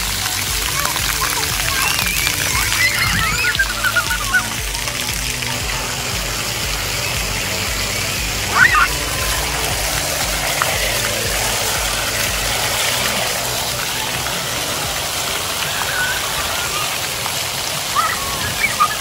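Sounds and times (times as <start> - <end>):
water jets spraying: 0.0 - 19.0.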